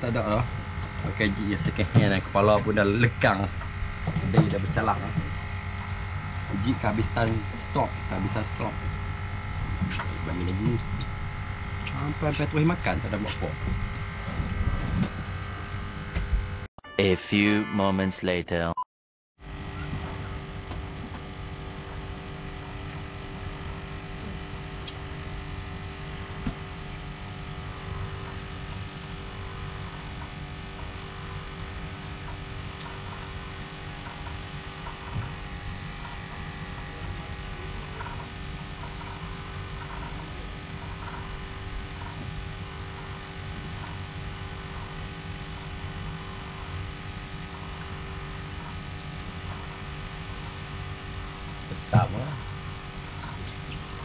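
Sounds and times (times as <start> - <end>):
boat engine droning: 0.0 - 16.7, 19.5 - 54.0.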